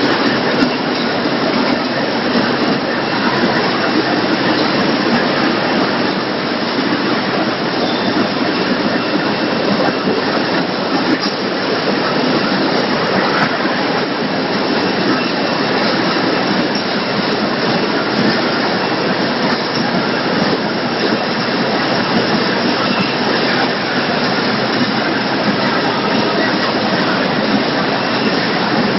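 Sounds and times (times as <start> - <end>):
processing line machinery din: 0.0 - 28.9.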